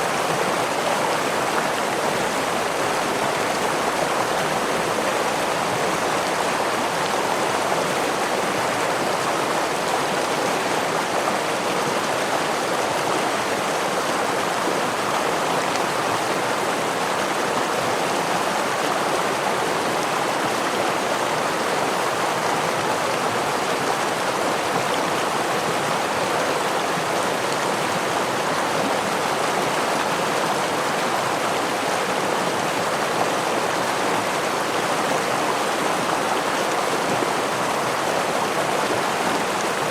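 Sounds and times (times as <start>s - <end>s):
stream with small waterfall: 0.0s - 39.9s.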